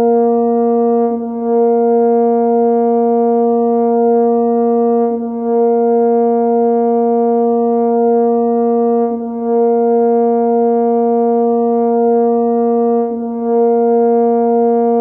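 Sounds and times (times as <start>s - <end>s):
brass horn drone tone: 0.0s - 15.0s.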